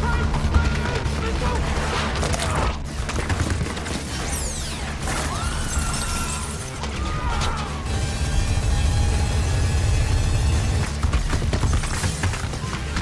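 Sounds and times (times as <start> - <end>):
film score music: 0.0 - 13.0.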